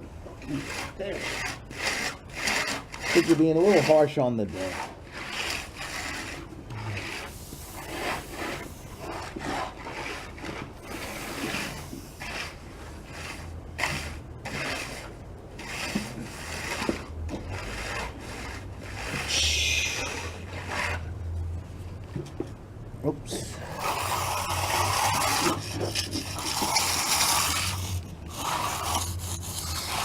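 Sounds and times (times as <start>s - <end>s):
tool scraping across concrete: 0.0s - 22.6s, 23.3s - 30.0s.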